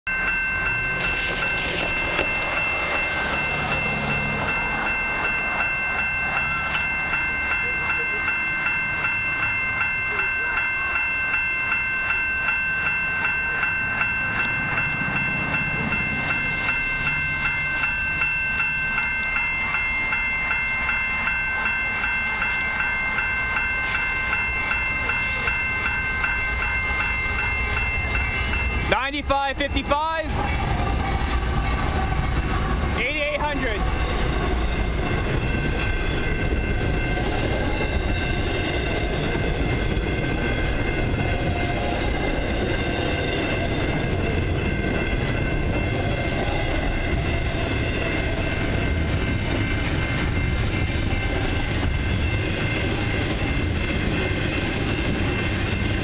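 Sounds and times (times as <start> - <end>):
level-crossing warning bell ringing: 0.0 - 56.0.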